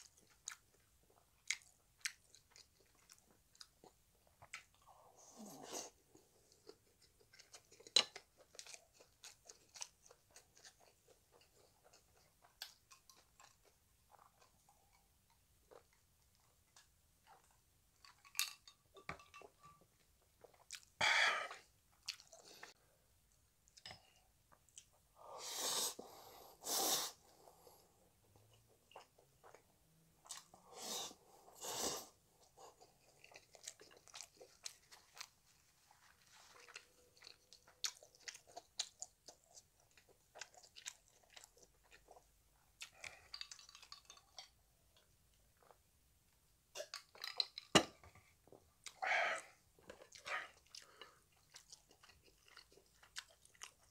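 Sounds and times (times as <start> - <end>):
chewing noodles: 0.0 - 22.8, 27.2 - 45.8, 46.7 - 47.7, 48.4 - 53.9.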